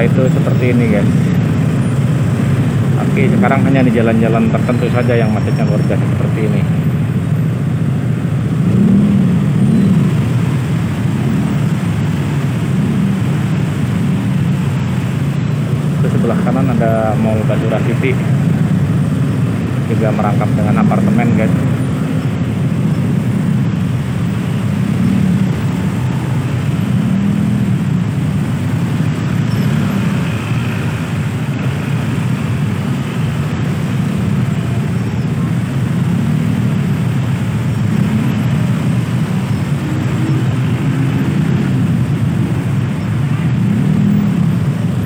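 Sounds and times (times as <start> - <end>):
motorcycle engines idling: 0.0 - 45.0.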